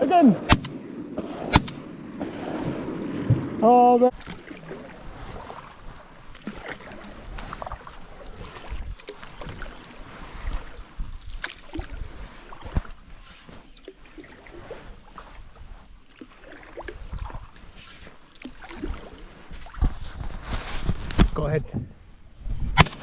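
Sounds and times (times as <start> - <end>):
wind rumbling on microphone: 0.0 - 16.0, 16.6 - 17.9, 18.7 - 23.0
water lapping: 0.0 - 21.2.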